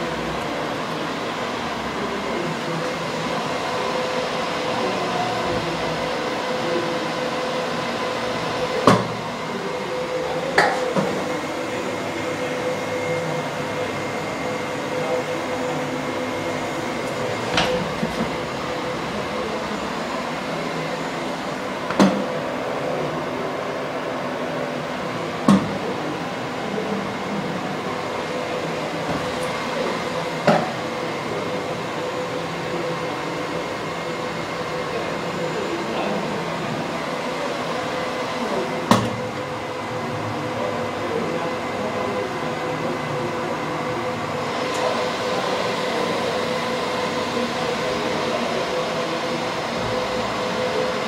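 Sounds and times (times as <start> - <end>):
server cooling fans whirring: 0.0 - 51.0.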